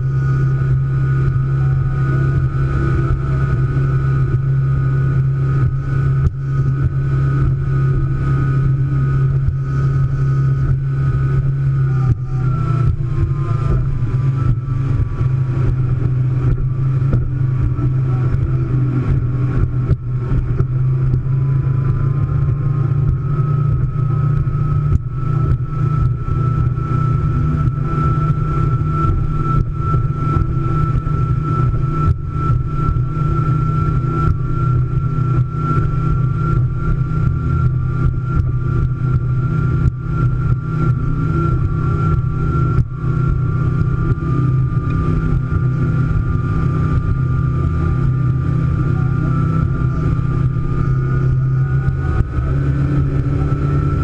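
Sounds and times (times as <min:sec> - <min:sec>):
boat engines droning: 0:00.0 - 0:54.0
high engine whine: 0:00.0 - 0:54.0.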